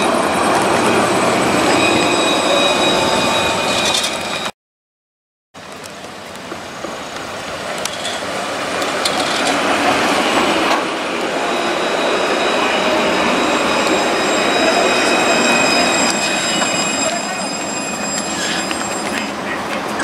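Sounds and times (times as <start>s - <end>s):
tram passing with high whine: 0.0s - 4.5s, 5.9s - 20.0s.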